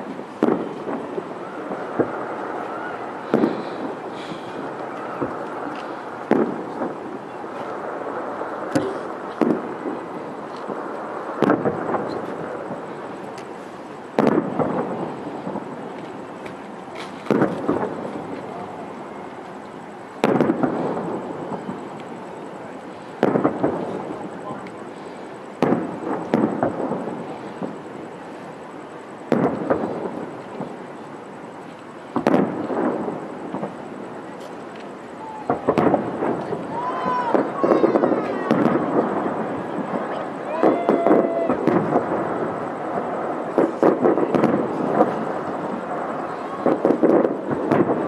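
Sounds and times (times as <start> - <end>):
firework shells booming: 0.0 - 48.0
small firework pops: 0.0 - 48.0.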